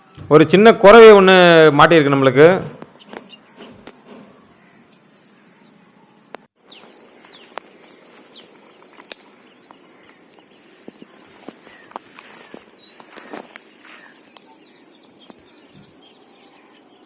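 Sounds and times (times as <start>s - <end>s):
bird chirps: 2.8s - 17.0s
insects shrilling: 2.8s - 17.0s.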